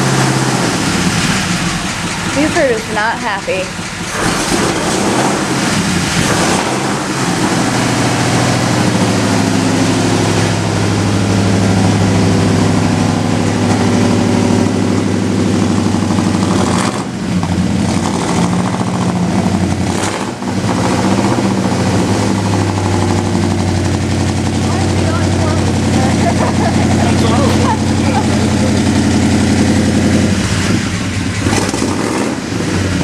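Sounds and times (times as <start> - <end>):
vehicle engine idling rough: 0.0 - 33.0.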